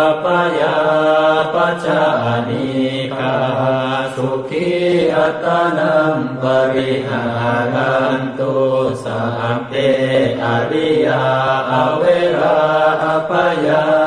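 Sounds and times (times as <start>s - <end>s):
man chanting in monotone: 0.0s - 14.0s.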